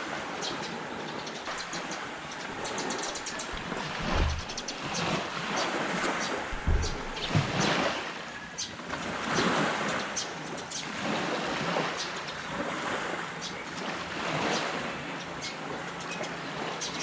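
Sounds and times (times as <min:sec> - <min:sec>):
wind rumble on microphone: 0:00.0 - 0:15.0
surf hissing on a beach: 0:00.0 - 0:17.0.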